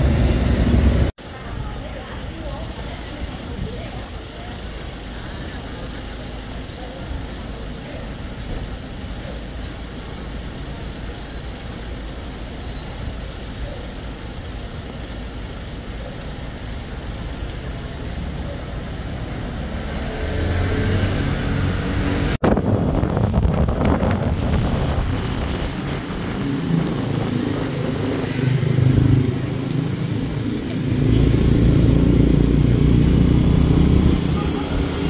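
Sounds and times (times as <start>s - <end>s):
vehicle engine: 0.0s - 1.1s, 4.8s - 35.0s
distant traffic hum: 0.0s - 35.0s
motorcycles on busy road: 0.0s - 35.0s.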